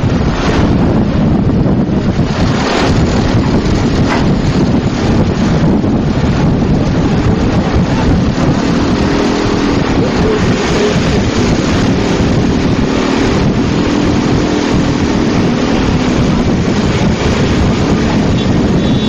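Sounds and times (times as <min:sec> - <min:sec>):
engine hum: 0:00.0 - 0:19.0
wind and road noise: 0:00.0 - 0:19.0
wind buffeting microphone: 0:00.0 - 0:19.0.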